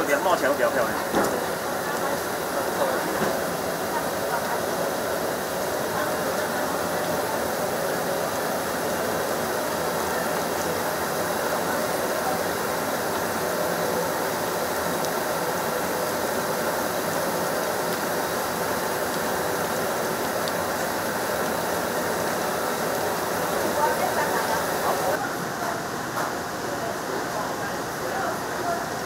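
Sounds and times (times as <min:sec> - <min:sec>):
pot boiling and bubbling: 0:00.0 - 0:29.0.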